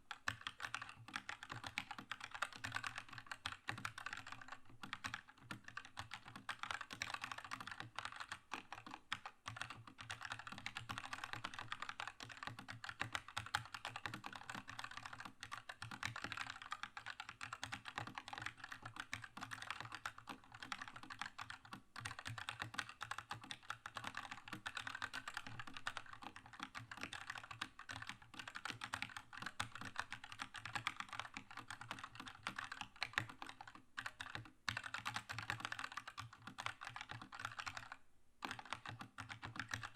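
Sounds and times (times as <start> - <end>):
mechanical keyboard typing: 0.1 - 39.9.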